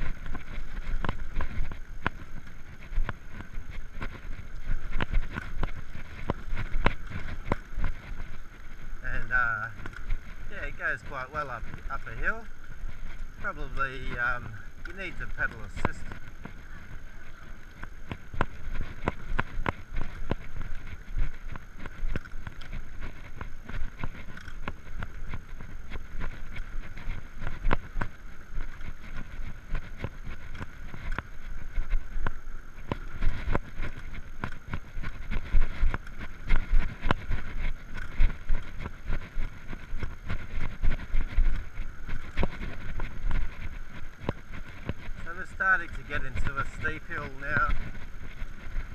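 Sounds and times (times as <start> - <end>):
bike rattling over road: 0.0 - 48.9
electric bicycle rumble: 0.0 - 48.9.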